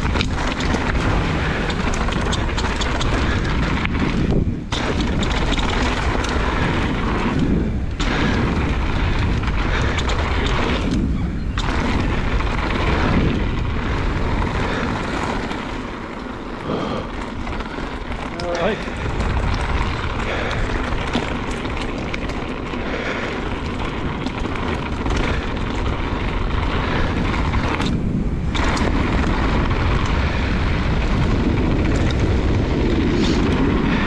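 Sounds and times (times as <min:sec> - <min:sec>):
bike tyres rolling over trail: 0:00.0 - 0:34.0
wind buffeting microphone: 0:00.0 - 0:34.0.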